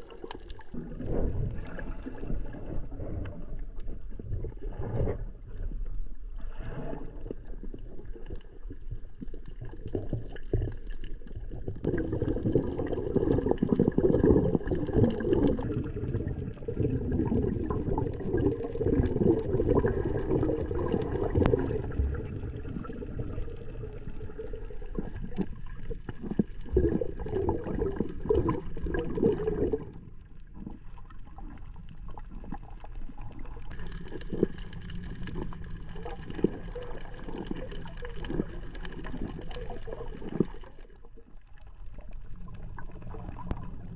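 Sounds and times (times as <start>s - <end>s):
muffled underwater water sloshing: 0.0s - 43.9s.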